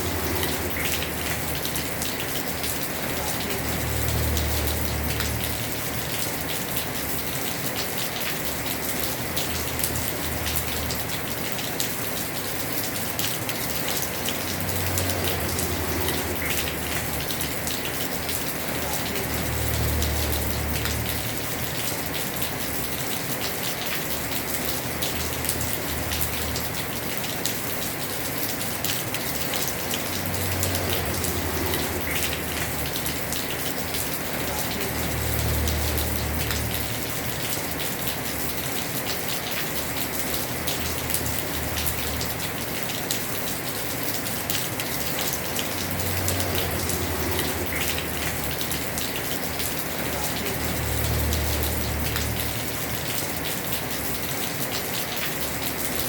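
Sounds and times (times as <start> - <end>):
rain pattering on a roof: 0.0 - 56.0.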